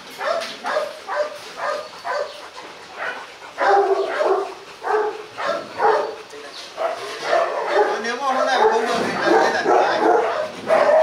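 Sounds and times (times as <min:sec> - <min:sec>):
dog barking: 0:00.2 - 0:02.4, 0:03.0 - 0:06.2, 0:06.8 - 0:11.0.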